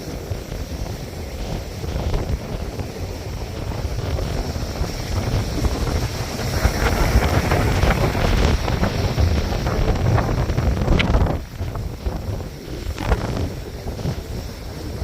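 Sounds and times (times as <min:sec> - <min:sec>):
storm waves breaking: 0:00.0 - 0:15.0
wind buffeting microphone: 0:00.0 - 0:15.0.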